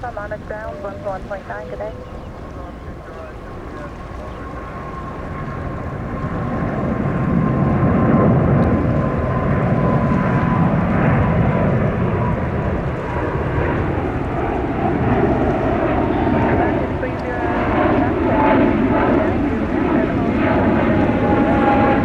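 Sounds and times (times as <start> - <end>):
high engine whine: 0.0 - 22.0
jet engines rumbling: 0.0 - 22.0.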